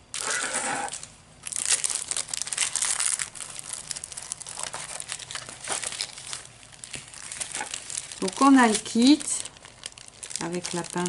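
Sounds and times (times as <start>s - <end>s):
packaging crinkling: 0.1s - 11.0s.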